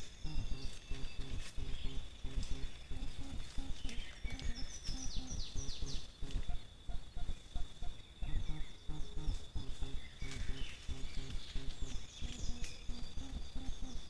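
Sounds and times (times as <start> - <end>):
bird chirping: 0.0 - 14.0
low pulsing: 0.0 - 14.0.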